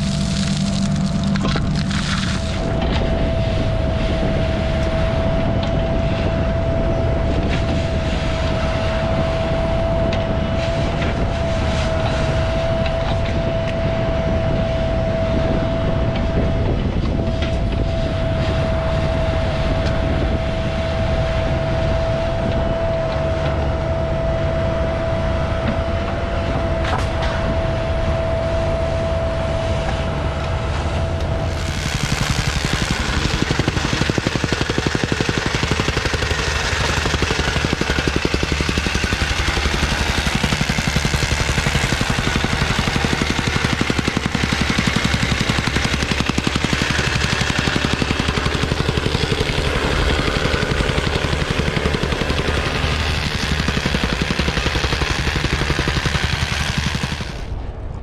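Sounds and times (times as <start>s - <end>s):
construction machine engine running: 0.0s - 58.0s.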